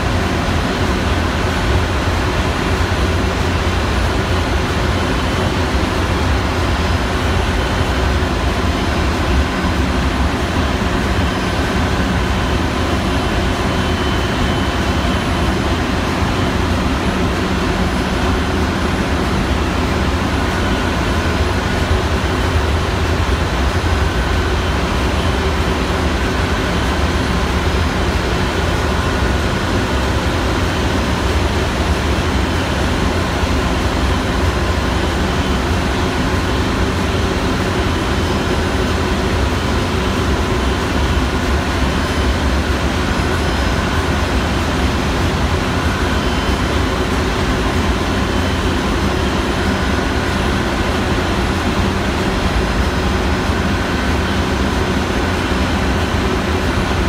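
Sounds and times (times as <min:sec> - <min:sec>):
constant hum: 0:00.0 - 0:57.0
engine-room machinery drone: 0:00.0 - 0:57.0.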